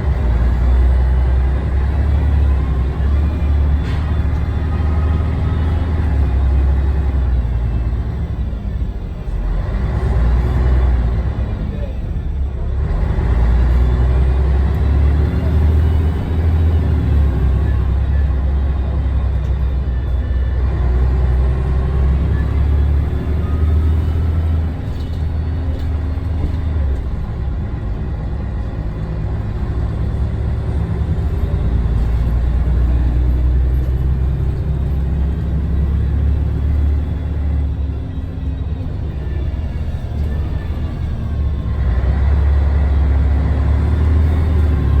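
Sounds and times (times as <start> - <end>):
bus diesel engine rumbling: 0.0 - 45.0.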